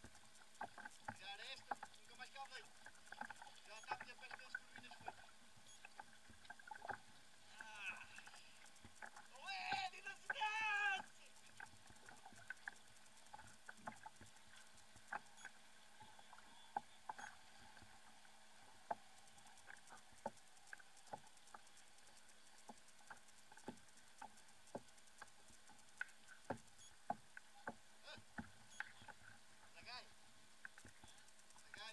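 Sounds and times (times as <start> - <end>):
faint sharp clicks and taps: 0.0 - 31.9.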